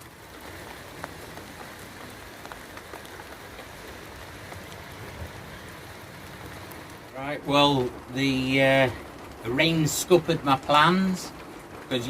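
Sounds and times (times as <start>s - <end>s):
raindrops landing: 0.0s - 12.0s
steady rain hiss: 0.0s - 12.0s.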